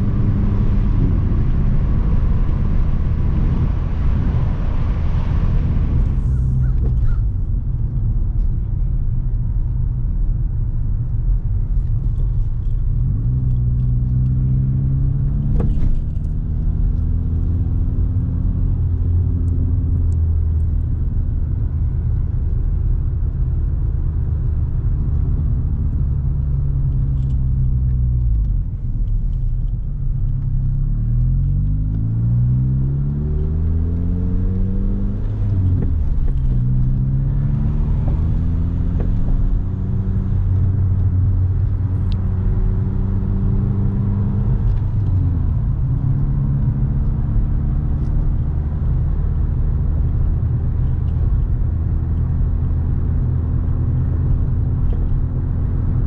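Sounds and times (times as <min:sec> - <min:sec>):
car engine and exhaust from cabin: 0:00.0 - 0:56.0.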